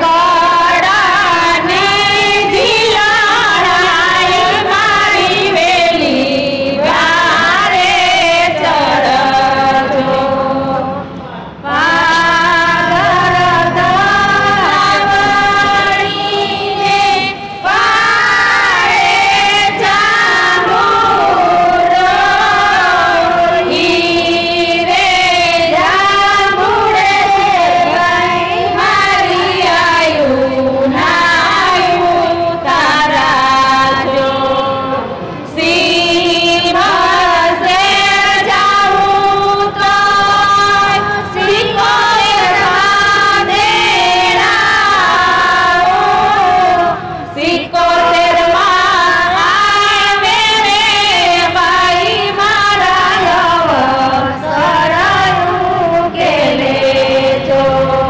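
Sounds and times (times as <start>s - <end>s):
women singing in unison: 0.0s - 58.0s.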